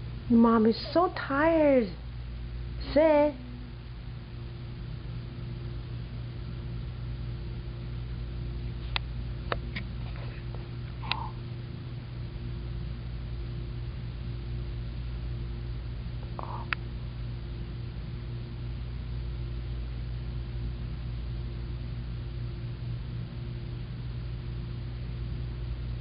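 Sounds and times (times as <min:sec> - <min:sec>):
room tone hum with hiss: 0:00.0 - 0:26.0.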